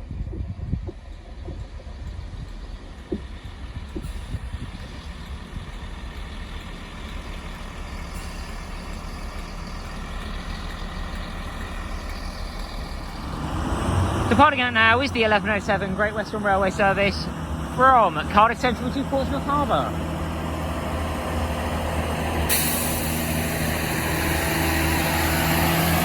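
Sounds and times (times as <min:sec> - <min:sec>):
diesel engines idling: 0:00.0 - 0:26.0.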